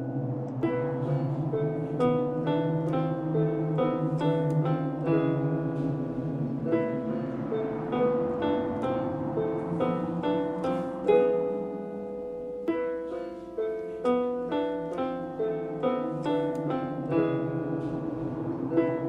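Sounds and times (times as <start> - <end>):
keyboard melody: 0.0 - 19.0.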